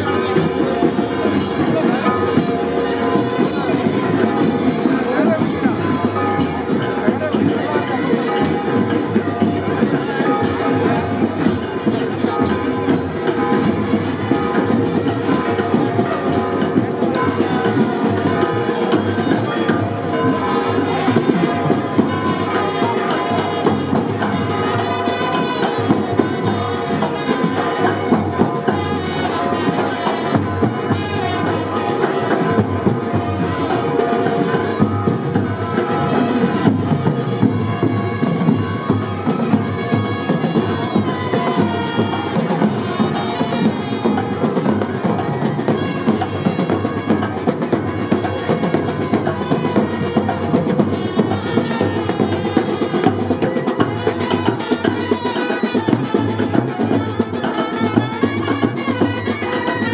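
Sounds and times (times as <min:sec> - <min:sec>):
brass band with drums: 0:00.0 - 0:59.9.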